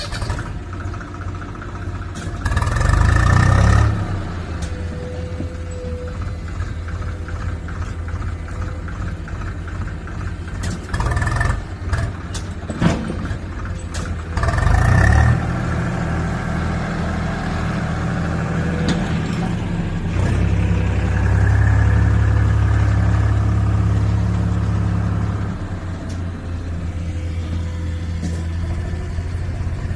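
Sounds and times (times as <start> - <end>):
hydraulic excavator running: 0.0 - 29.9
tractor diesel engine: 0.0 - 29.9.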